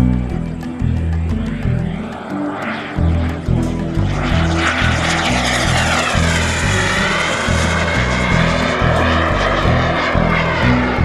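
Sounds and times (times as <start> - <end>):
model aircraft engine flying past: 0.0 - 11.0.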